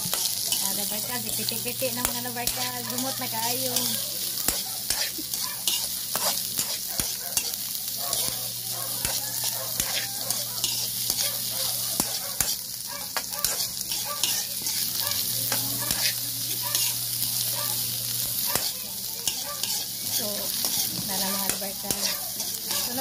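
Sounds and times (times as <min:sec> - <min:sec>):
metal spatula scraping a wok: 0:00.0 - 0:17.2, 0:18.2 - 0:23.0
onions sizzling in oil: 0:00.0 - 0:23.0.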